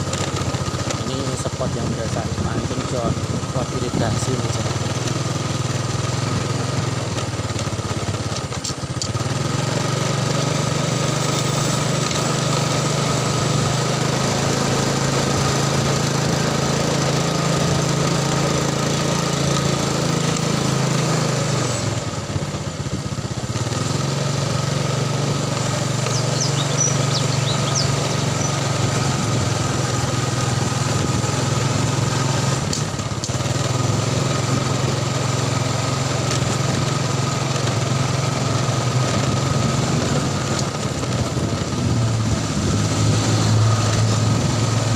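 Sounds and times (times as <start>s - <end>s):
small motorcycle engine running: 0.0s - 44.9s.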